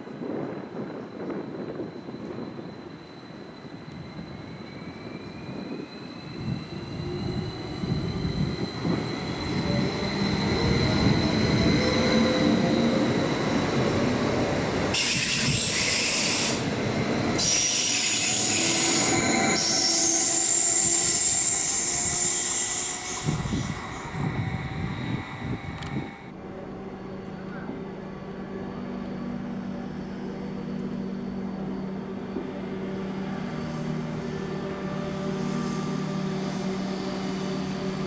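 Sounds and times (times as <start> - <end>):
train rolling with electric whine: 0.0 - 38.0.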